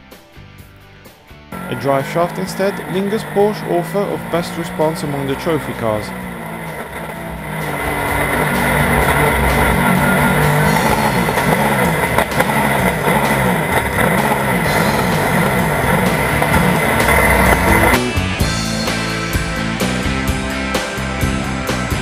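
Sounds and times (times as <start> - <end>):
rock music with drums and guitar: 0.0 - 22.0
race car engine revving: 1.5 - 22.0.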